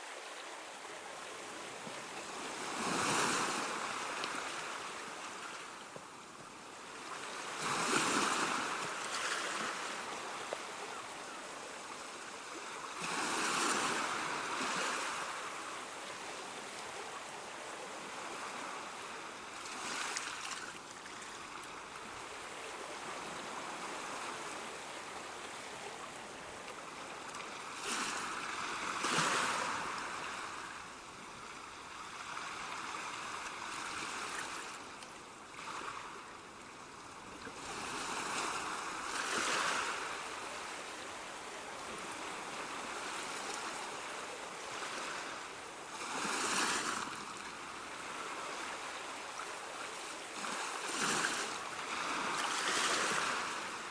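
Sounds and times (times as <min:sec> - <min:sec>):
ocean waves washing on shore: 0:00.0 - 0:53.9.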